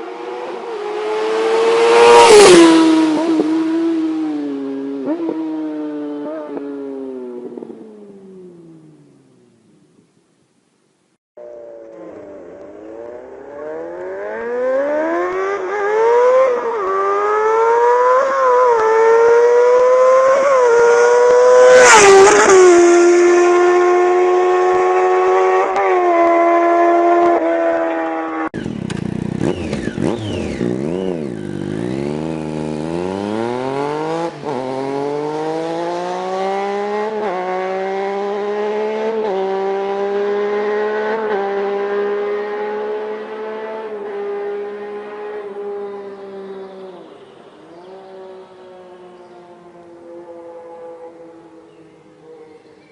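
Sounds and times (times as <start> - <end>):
motorcycle engine revving: 0.0 - 9.3, 11.6 - 52.2
motorcycle engine accelerating: 0.0 - 9.6, 11.4 - 52.4.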